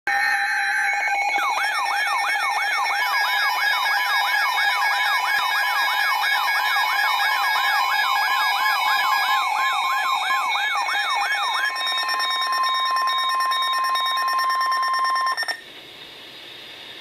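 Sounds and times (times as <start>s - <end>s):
alert siren wailing: 0.1s - 15.6s
steady electronic tones: 0.1s - 15.6s.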